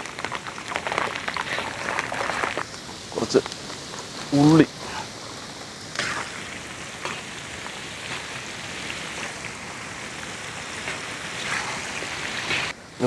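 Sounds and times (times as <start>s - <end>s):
food deep-frying in oil: 0.0s - 12.8s.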